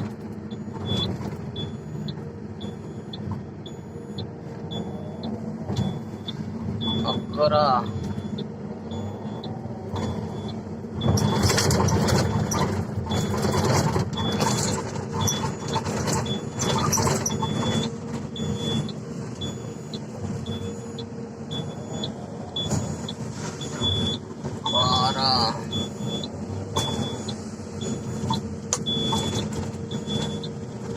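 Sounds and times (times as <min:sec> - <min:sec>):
heavy machinery diesel engine running: 0:00.0 - 0:30.9
short high-pitched beeps: 0:00.5 - 0:11.5, 0:15.2 - 0:30.5.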